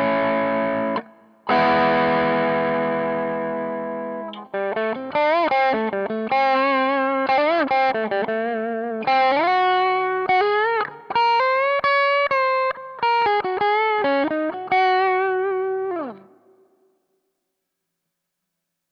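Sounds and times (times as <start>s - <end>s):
electric guitar lead line: 0.0s - 16.7s.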